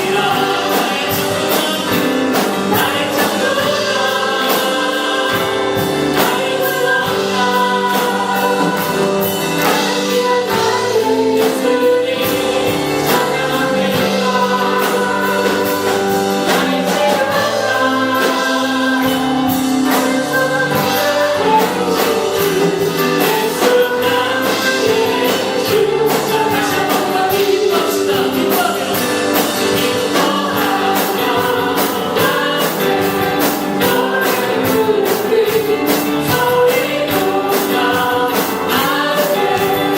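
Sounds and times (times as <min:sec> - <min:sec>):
group singing gospel song: 0:00.0 - 0:39.9
instrumental accompaniment with beat: 0:00.0 - 0:39.9.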